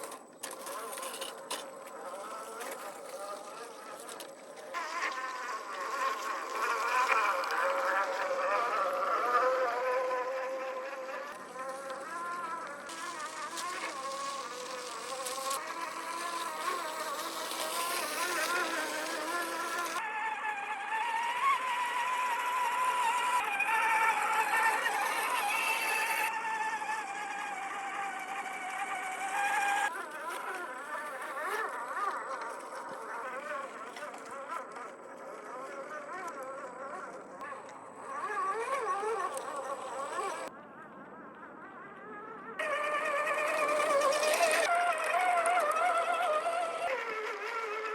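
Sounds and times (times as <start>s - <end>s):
toy truck motor whining: 0.0s - 40.6s, 41.4s - 47.9s.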